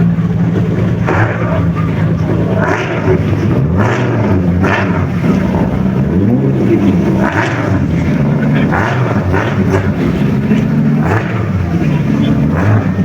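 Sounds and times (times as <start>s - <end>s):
sports car engines revving: 0.0s - 13.0s.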